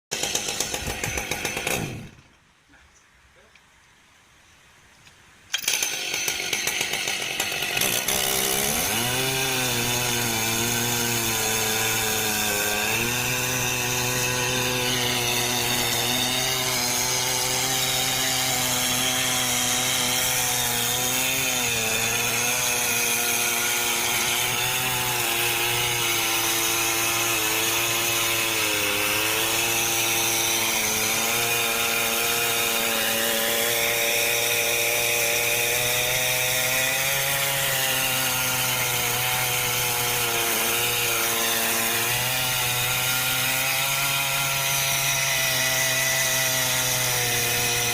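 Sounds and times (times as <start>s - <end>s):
chainsaw cutting into tree: 0.1s - 2.3s, 5.5s - 47.9s.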